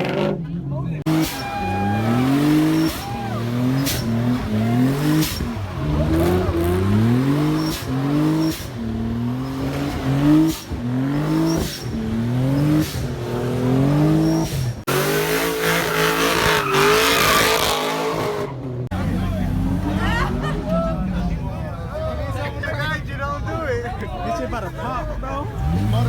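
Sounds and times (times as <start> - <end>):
car engine revving: 0.0 - 21.6, 25.4 - 26.0.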